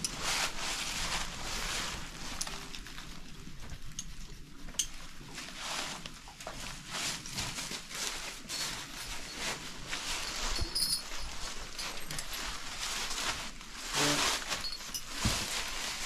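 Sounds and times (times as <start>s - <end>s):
rustling in dry bedding: 0.0s - 3.6s, 5.1s - 16.0s.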